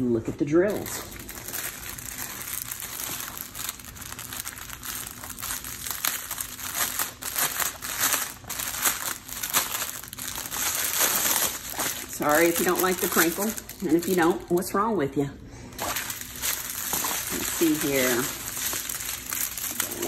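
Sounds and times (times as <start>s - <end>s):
crinkly plastic wrapping crackling: 0.7s - 14.8s, 15.7s - 20.0s.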